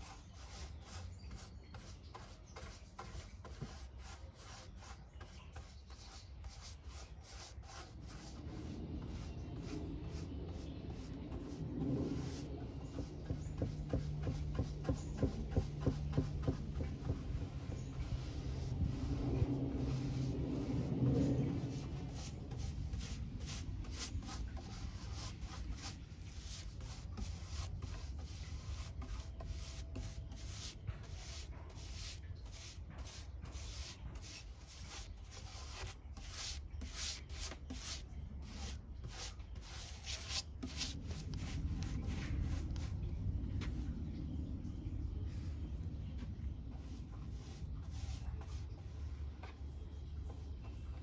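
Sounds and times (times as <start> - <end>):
paint brush strokes on wood: 0.0 - 44.0, 45.2 - 51.0.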